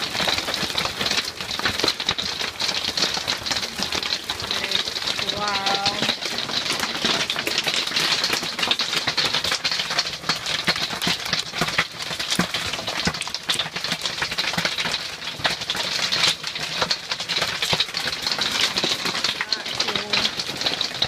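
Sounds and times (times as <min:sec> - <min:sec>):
hail on a metal roof: 0:00.0 - 0:21.0.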